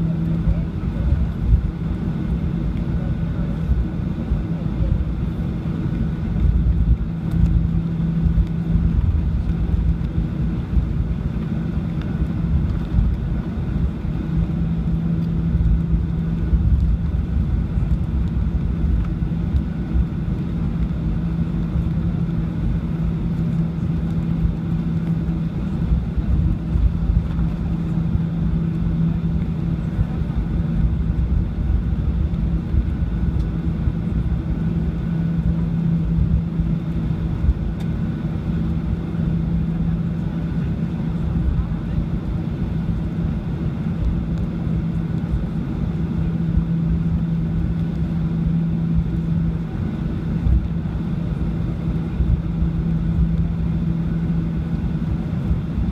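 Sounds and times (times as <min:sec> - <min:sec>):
aircraft cabin hum: 0:00.0 - 0:55.9
low rumble: 0:00.0 - 0:55.9.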